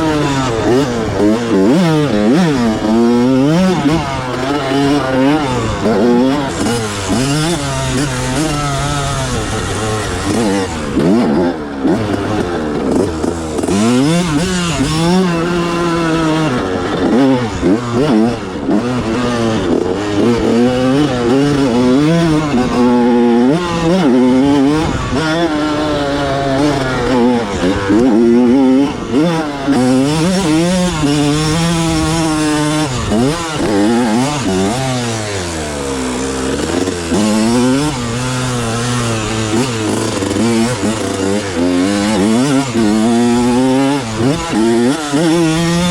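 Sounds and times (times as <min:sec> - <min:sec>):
two-stroke engine revving: 0:00.0 - 0:45.9.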